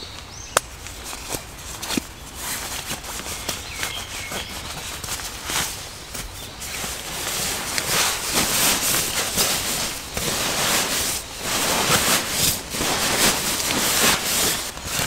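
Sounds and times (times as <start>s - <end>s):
footsteps crunching through undergrowth: 0.8s - 15.0s.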